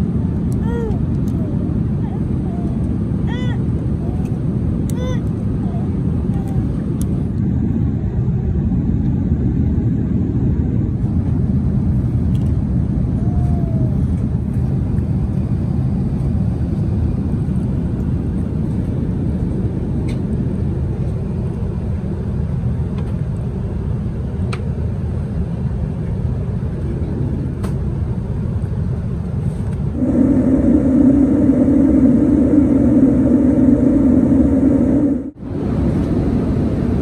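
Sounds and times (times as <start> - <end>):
airplane cabin rumble: 0.0 - 37.0.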